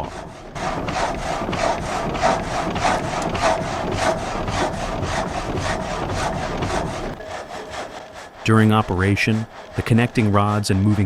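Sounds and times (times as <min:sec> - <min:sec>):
frame saw rasping through wood: 0:00.0 - 0:11.0.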